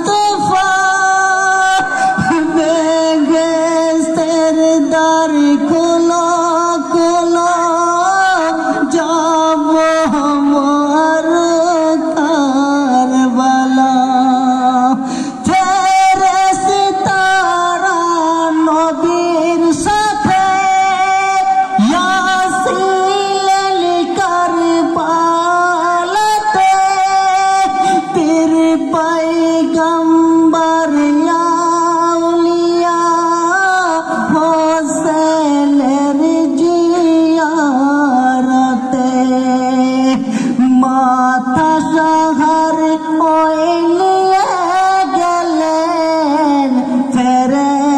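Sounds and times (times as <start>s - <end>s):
person singing a lament: 0.0s - 47.9s.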